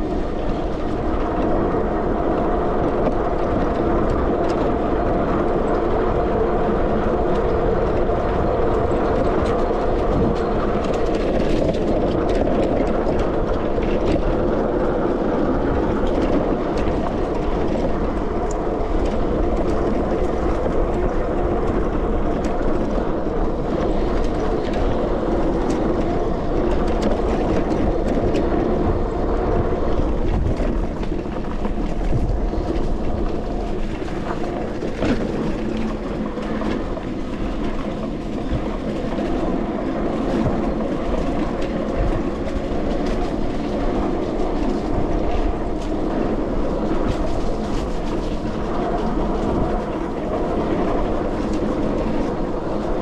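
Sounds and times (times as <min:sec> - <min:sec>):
electric bike hum and rumble: 0:00.0 - 0:53.0.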